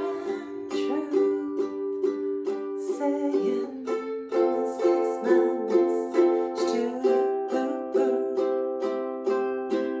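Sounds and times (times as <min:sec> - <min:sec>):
ukulele strumming chords: 0:00.0 - 0:10.0.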